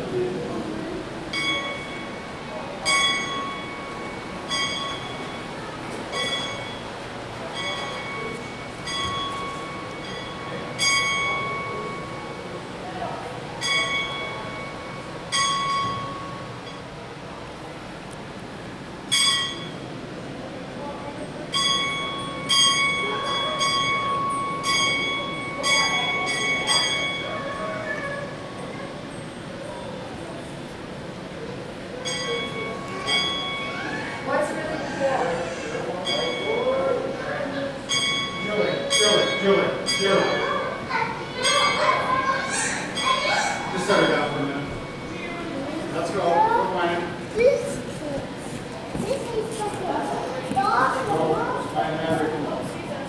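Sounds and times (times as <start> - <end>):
locomotive bell ringing: 0.0 - 47.9.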